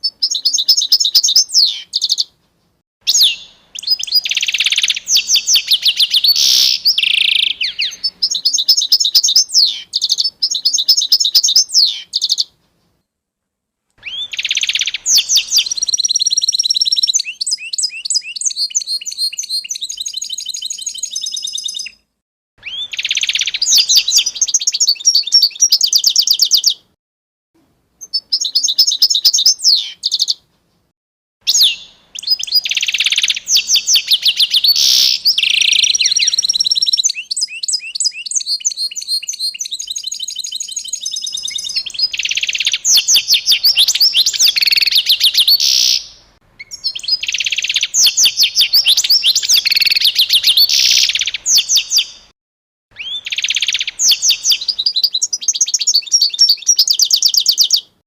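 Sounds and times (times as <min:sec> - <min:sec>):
songbirds chirping: 0:00.0 - 0:13.2, 0:14.0 - 0:27.0, 0:28.0 - 0:30.9, 0:31.5 - 0:52.3, 0:52.9 - 0:58.0.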